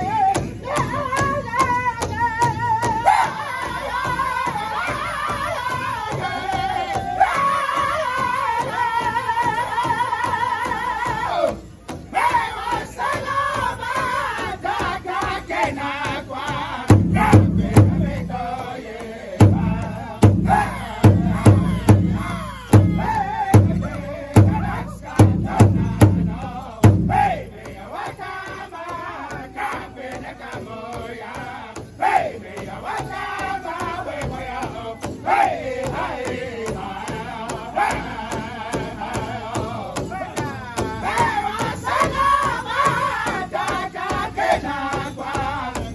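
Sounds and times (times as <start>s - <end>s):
group singing high chant: 0.0s - 45.9s
large drum beating: 0.0s - 45.9s.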